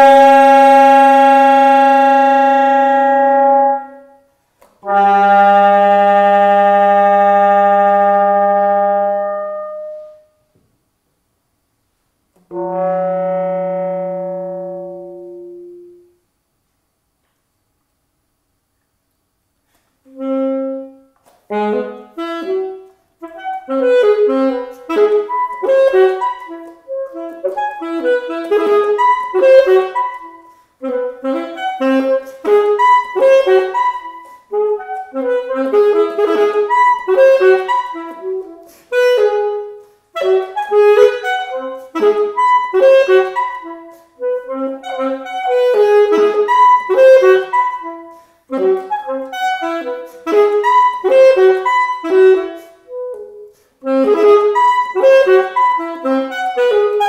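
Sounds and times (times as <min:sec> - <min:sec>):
solo saxophone: 0:00.0 - 0:10.6, 0:12.3 - 0:16.3, 0:19.6 - 0:57.0.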